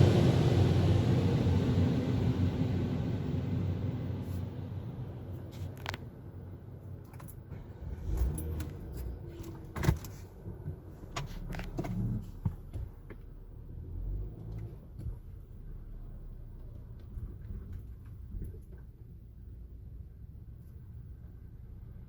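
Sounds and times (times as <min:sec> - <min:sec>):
low car rumble: 0:00.0 - 0:22.0.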